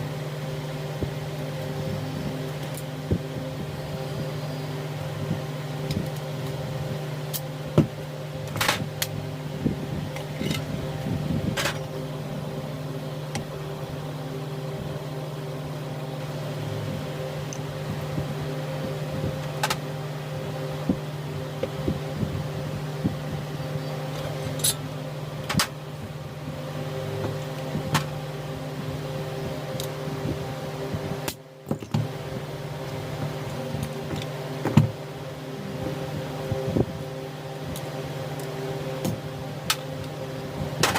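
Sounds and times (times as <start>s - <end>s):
mechanical hum: 0.0s - 40.9s.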